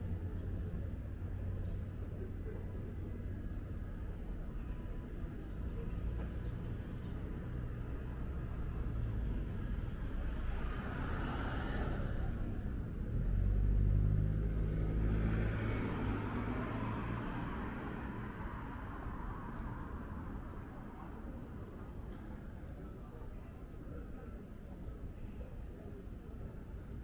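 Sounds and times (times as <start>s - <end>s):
street traffic hum: 0.0s - 27.0s.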